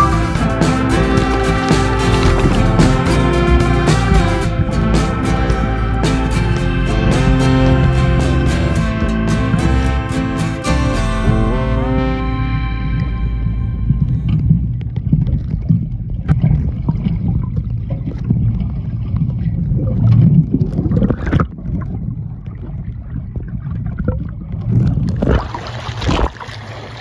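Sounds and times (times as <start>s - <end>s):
water splashing: 0.0s - 10.8s, 12.2s - 27.0s
muffled underwater rumble: 0.0s - 26.4s.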